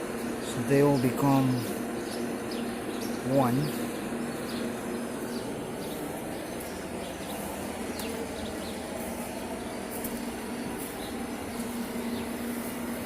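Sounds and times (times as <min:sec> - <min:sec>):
distant traffic: 0:00.0 - 0:13.0
low hum: 0:00.0 - 0:13.0.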